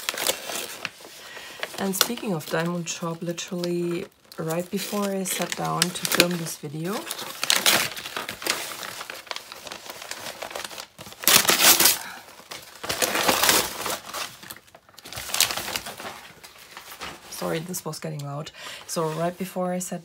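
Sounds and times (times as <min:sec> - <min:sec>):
wrapping paper crinkling and tearing: 0:00.0 - 0:17.8.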